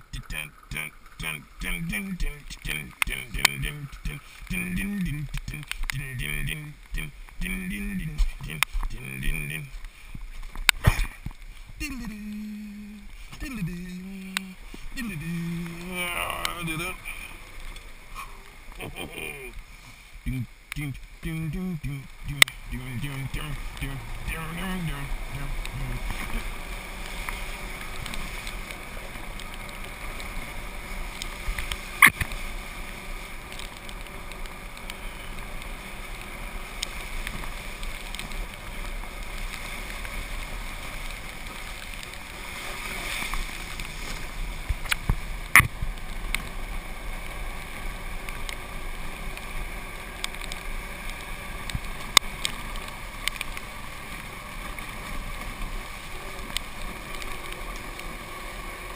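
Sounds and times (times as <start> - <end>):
faint whine: 0.0 - 58.9
golf cart running hiss: 0.0 - 58.9.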